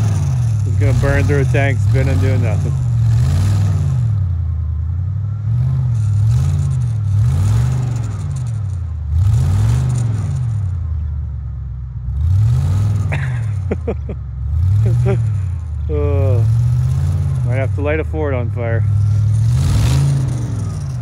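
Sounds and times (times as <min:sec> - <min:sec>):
pickup truck engine revving: 0:00.0 - 0:11.1, 0:12.0 - 0:21.0.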